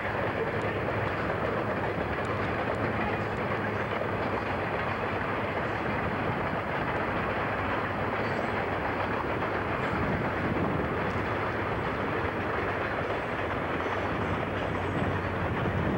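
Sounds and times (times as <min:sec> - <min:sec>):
freight train wheels on rail: 0:00.0 - 0:15.9.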